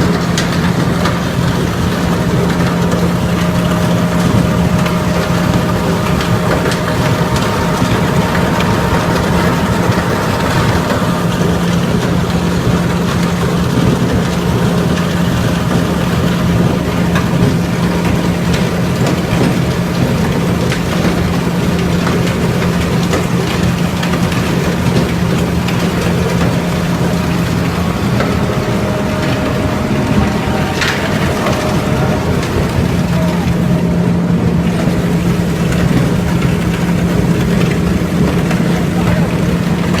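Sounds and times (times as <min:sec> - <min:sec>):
grinding mill running: 0:00.0 - 0:40.0.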